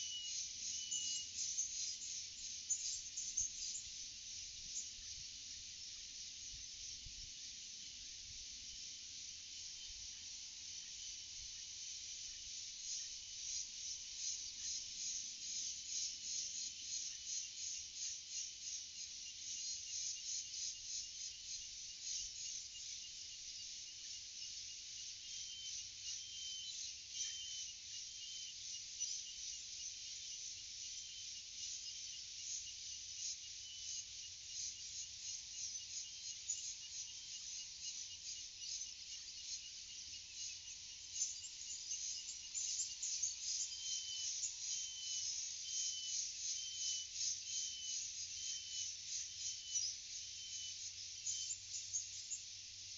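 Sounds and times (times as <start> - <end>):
insects chirping: 0.0 - 52.9.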